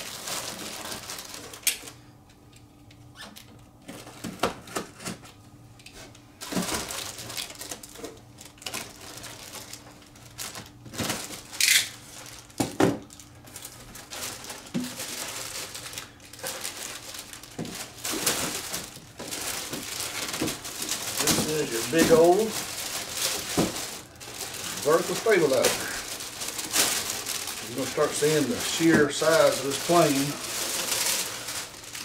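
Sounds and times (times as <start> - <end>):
packaging crinkling and rustling: 0.0 - 2.0, 3.2 - 32.0.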